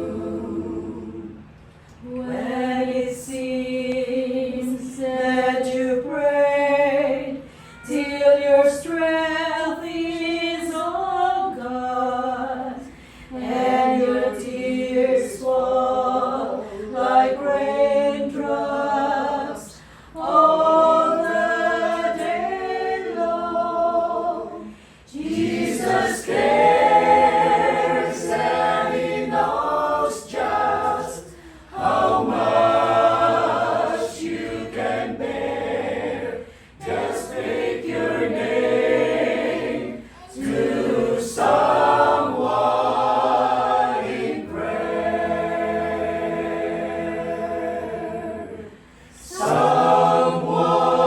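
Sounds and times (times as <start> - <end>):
choir singing gospel unaccompanied: 0.0 - 51.0.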